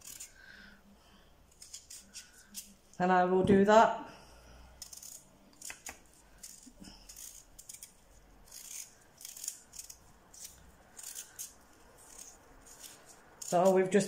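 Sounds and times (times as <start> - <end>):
knife scraping potato skin: 0.0 - 0.6, 1.4 - 3.0, 4.7 - 14.0.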